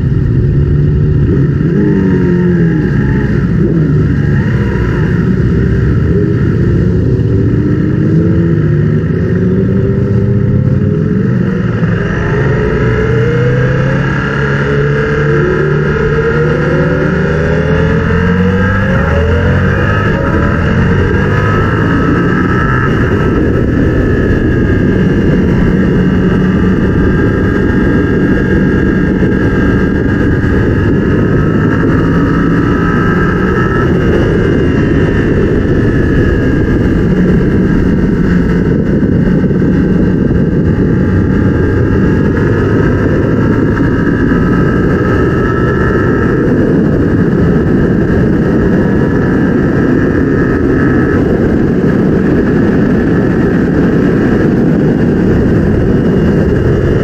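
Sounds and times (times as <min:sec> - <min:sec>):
loud rush of noise: 0:00.0 - 0:57.0
motorcycle engine running hard: 0:00.0 - 0:57.0.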